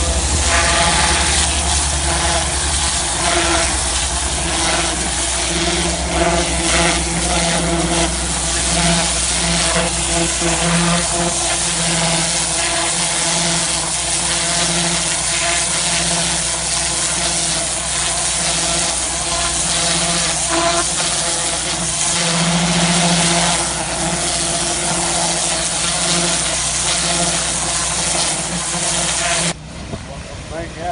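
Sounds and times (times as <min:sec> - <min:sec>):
pressure washer jet hissing: 0:00.0 - 0:29.6
pump motor humming: 0:00.0 - 0:30.9.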